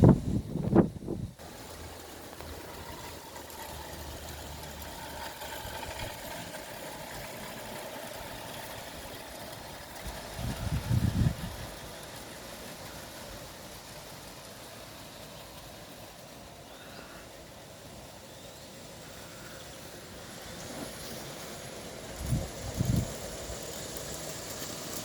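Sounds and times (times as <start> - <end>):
locomotive engine running: 0.0 - 25.0.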